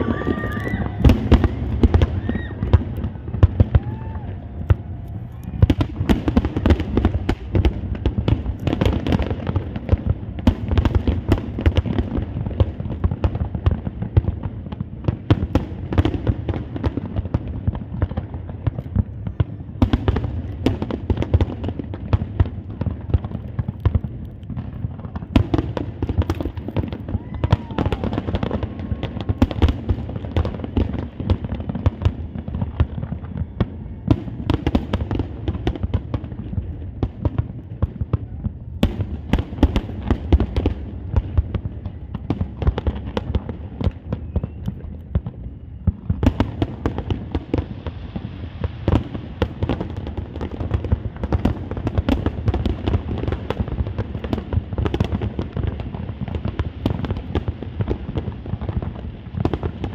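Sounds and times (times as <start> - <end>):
fireworks bursts and crackling bangs: 0.0 - 59.9.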